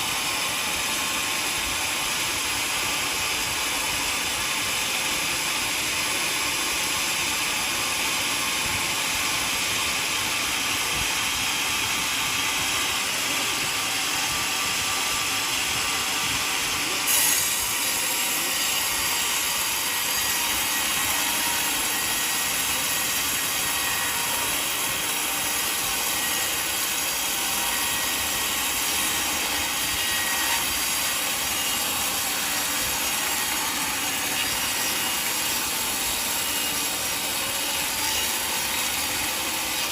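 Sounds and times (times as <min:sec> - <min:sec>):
sawmill sawing through log: 0:00.0 - 0:39.9.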